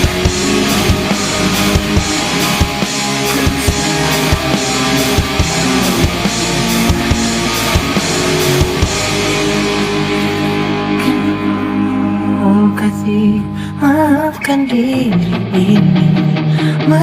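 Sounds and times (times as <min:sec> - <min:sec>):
pop-punk guitars and drums: 0:00.0 - 0:17.0.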